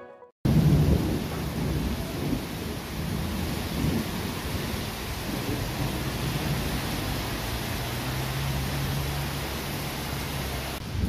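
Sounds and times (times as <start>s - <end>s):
heavy rain on pavement: 0.5s - 11.0s.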